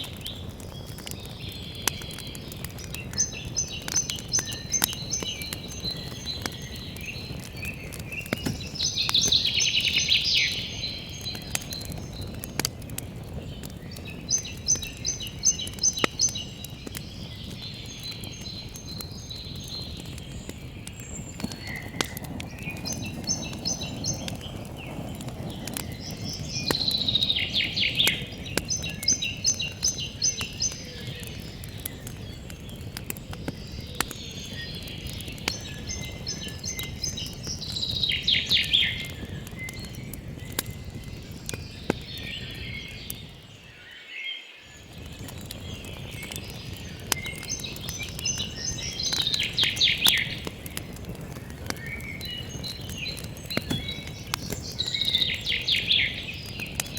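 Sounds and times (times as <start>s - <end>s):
campfire crackling and popping: 0.0s - 44.0s, 44.6s - 56.9s
songbird singing: 0.0s - 56.9s.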